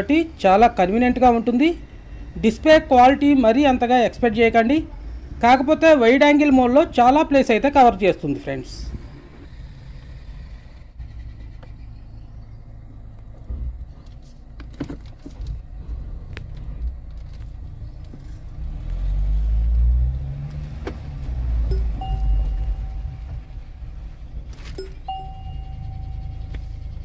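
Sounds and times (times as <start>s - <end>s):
car engine rumbling: 0.0s - 27.0s.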